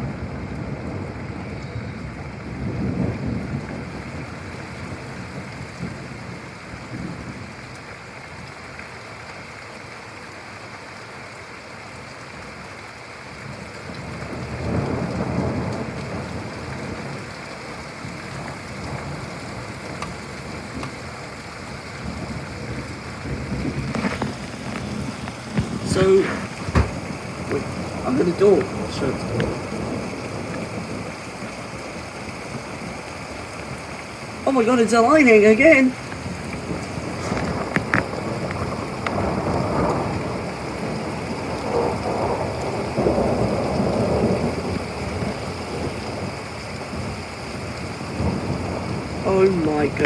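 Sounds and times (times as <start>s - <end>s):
low thunder rumbles: 0.0s - 7.7s, 13.8s - 50.0s
steady rain falling: 0.0s - 50.0s.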